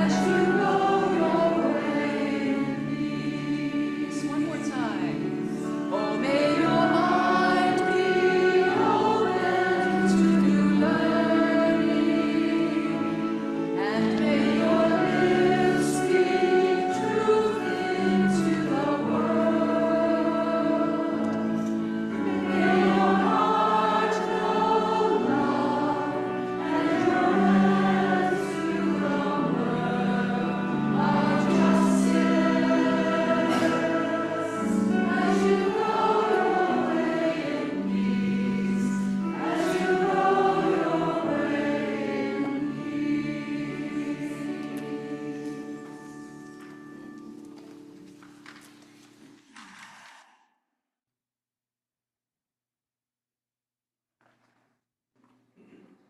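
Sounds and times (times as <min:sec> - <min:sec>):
group singing a hymn: 0:00.0 - 0:46.4
low held accompaniment notes: 0:00.0 - 0:49.1.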